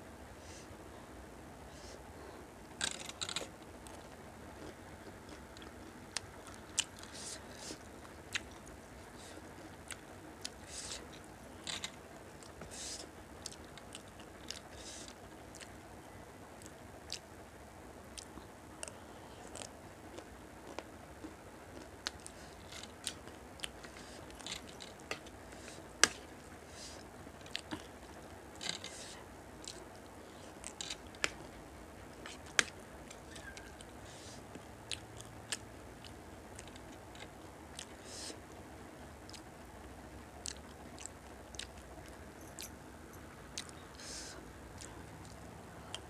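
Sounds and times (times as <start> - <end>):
chewing and crunching: 2.8 - 46.0.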